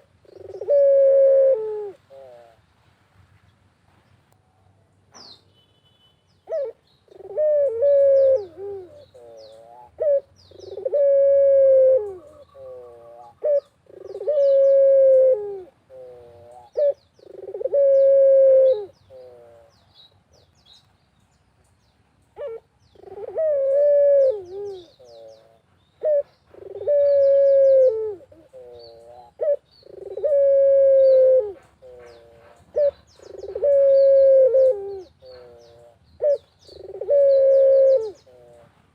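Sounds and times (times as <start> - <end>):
small birds chirping: 0.0 - 0.9, 5.1 - 11.1, 12.0 - 38.9
collared dove cooing: 0.0 - 2.6, 6.5 - 19.8, 22.4 - 38.7.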